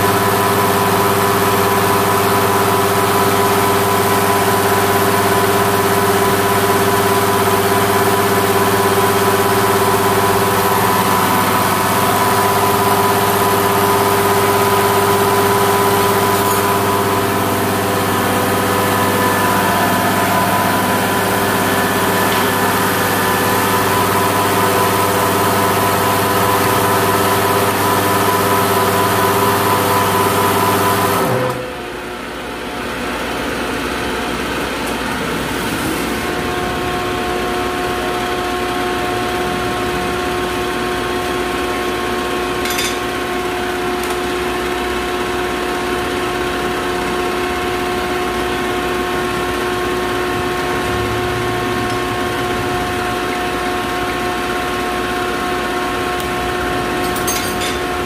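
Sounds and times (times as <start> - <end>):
pump test bench humming: 0.0 - 58.0.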